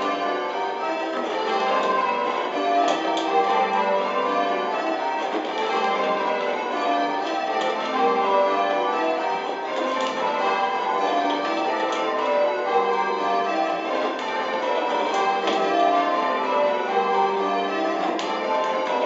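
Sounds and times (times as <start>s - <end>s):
church bells change ringing: 0.0s - 19.0s.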